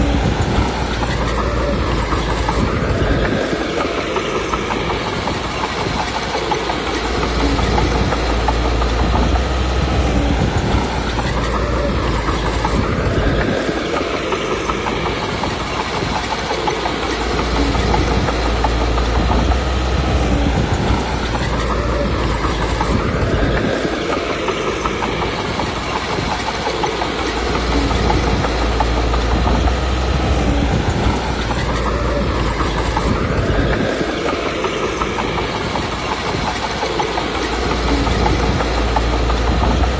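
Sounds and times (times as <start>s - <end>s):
bulldozer diesel engine drone: 0.0s - 39.9s
steel tracks clanking: 0.0s - 39.9s.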